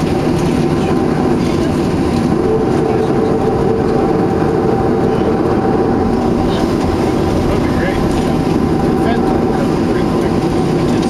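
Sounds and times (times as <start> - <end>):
airliner cabin rumble while taxiing: 0.0 - 11.0.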